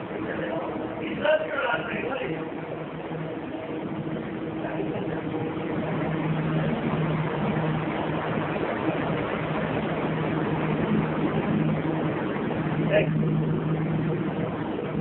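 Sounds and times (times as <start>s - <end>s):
machine hum: 0.0s - 15.0s
rushing air: 0.0s - 15.0s.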